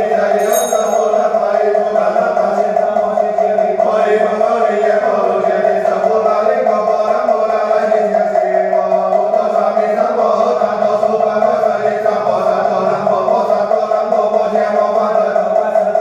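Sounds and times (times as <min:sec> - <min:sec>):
voices chanting prayers: 0:00.0 - 0:16.0.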